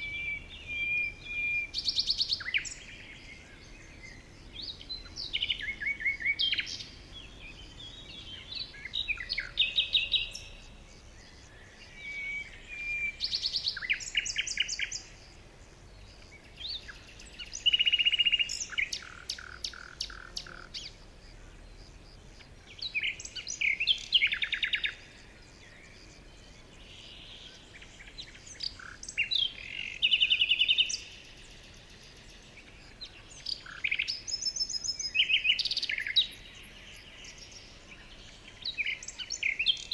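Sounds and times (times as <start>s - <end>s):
birds chirping and trilling: 0.0s - 39.9s
faint background hiss: 0.0s - 39.9s.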